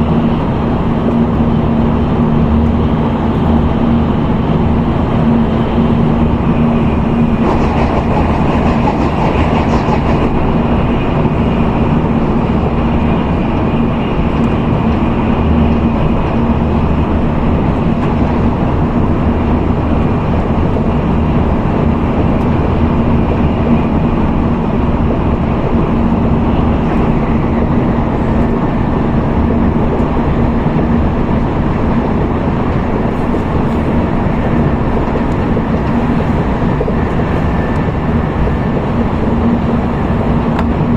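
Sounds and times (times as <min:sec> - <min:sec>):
train cabin running rumble: 0:00.0 - 0:40.9.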